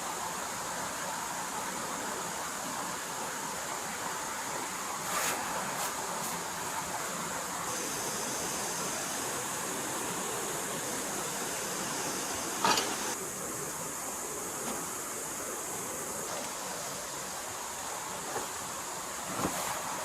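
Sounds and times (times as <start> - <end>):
forest stream flowing: 0.0 - 20.0.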